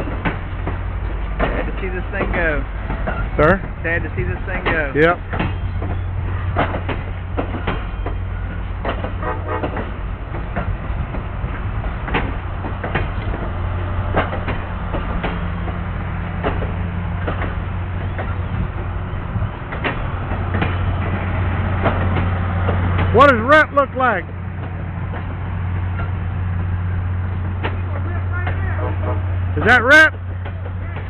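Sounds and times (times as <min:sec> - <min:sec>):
low diesel drone: 0:00.0 - 0:31.0
metallic clacks of train wheels: 0:00.0 - 0:31.0.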